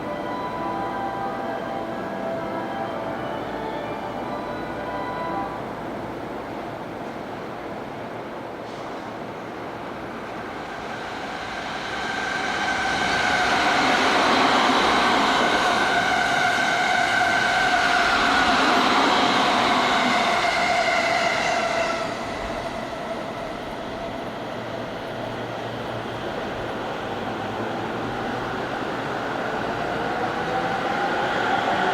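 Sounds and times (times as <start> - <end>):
electric train passing with whine: 0.0 - 31.9.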